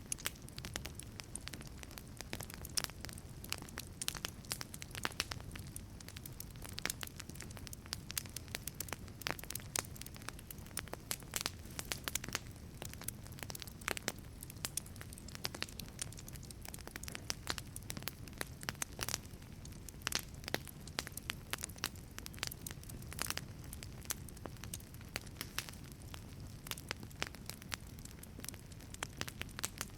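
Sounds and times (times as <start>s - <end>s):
low rumble of flame: 0.0s - 29.9s
wood fire crackling and popping: 0.0s - 29.9s.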